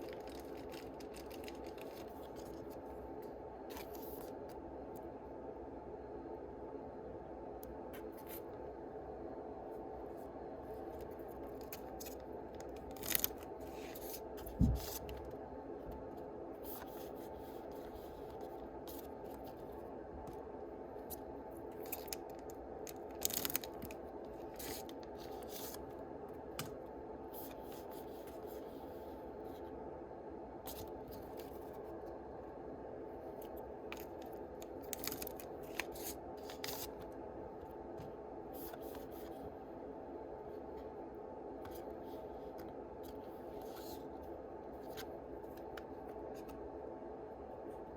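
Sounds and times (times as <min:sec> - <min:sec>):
background hum: 0:00.0 - 0:47.9.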